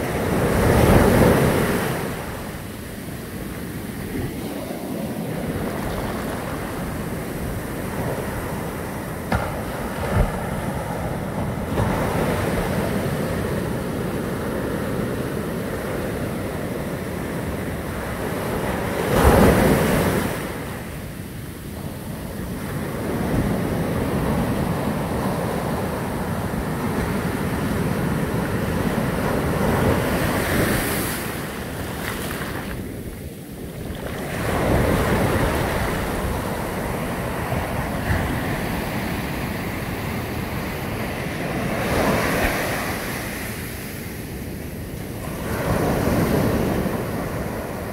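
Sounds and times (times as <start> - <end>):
heavy surf breaking on shore: 0.0 - 47.9.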